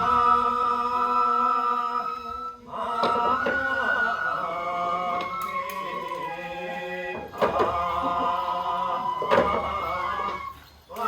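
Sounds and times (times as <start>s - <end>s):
voices chanting sustained notes: 0.0s - 11.0s.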